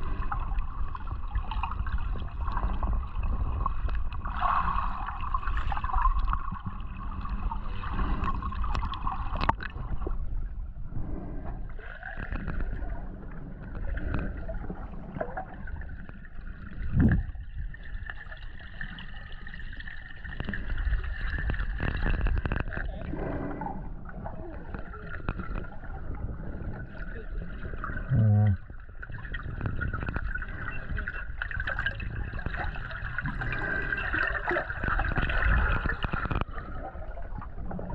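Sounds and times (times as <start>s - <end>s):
underwater rumbling and gurgling: 0.0s - 37.9s.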